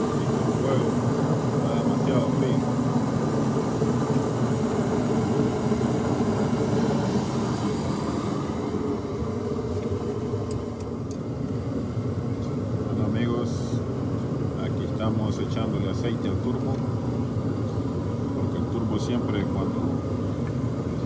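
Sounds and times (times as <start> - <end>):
forced-air heater rumbling: 0.0 - 21.0.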